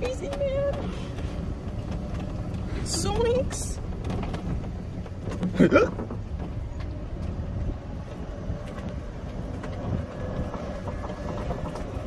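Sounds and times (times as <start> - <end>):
cart wheels rumbling: 0.0 - 12.0
light rattles: 0.0 - 12.0.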